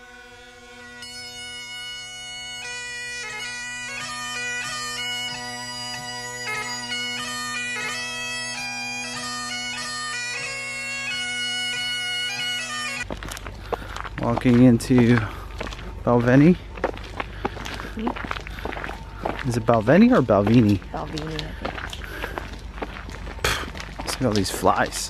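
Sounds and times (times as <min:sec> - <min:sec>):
bagpipe music: 0:00.0 - 0:25.0.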